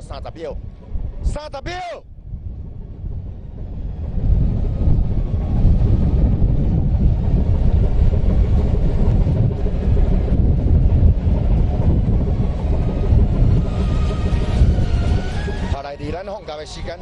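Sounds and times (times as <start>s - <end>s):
ship low rumbling: 0.0s - 17.0s.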